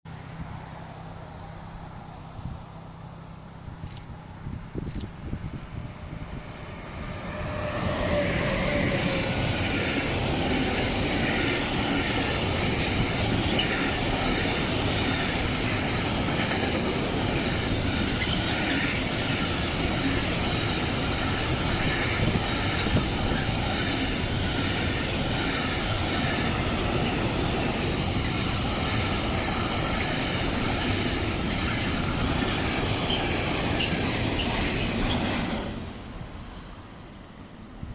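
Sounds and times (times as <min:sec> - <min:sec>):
train wheels rolling on rails: 0:00.1 - 0:37.9.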